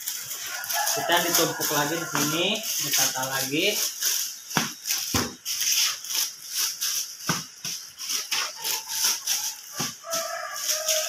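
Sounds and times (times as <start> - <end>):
bread bags rustling and crinkling: 0.0 - 11.0.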